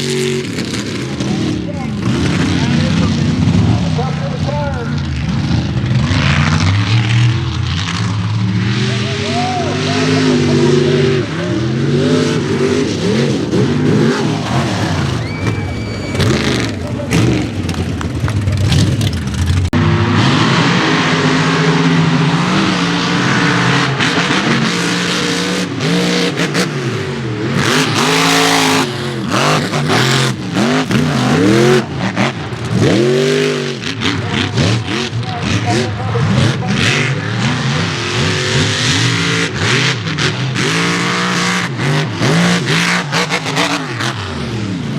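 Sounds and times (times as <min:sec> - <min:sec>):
truck engines revving hard: 0:00.0 - 0:44.9.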